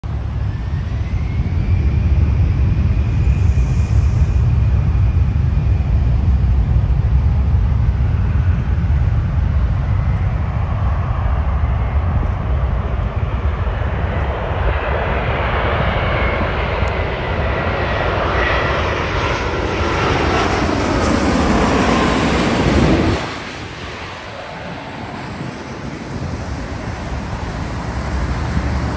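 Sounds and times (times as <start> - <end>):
jet engine hiss and whine: 0.0 - 28.9
low rumble: 0.0 - 28.9.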